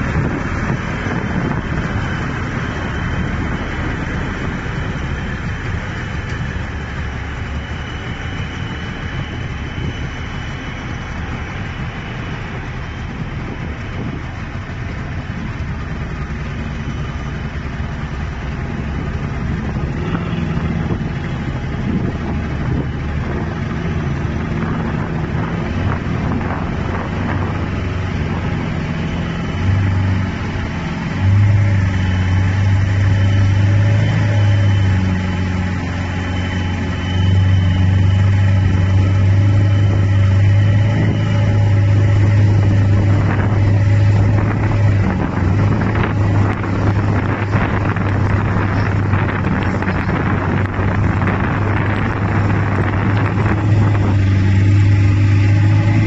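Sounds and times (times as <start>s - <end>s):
boat engines running: 0.0s - 56.0s
rush of wind and water: 0.0s - 56.0s.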